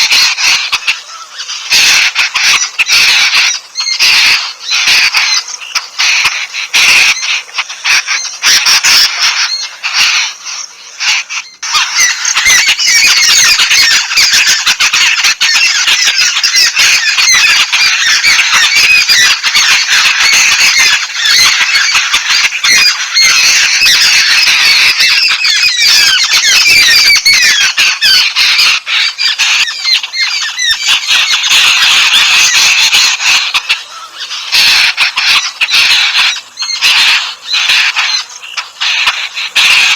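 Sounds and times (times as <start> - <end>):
birds chattering: 0.0 - 39.9.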